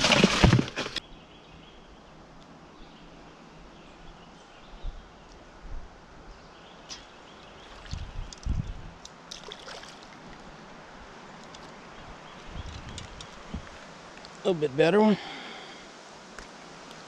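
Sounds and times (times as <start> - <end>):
faint steady hiss: 1.0 - 17.0.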